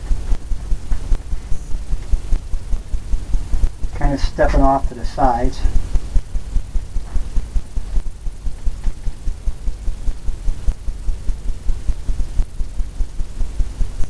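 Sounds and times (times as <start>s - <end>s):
low throbbing hum: 0.0s - 14.0s.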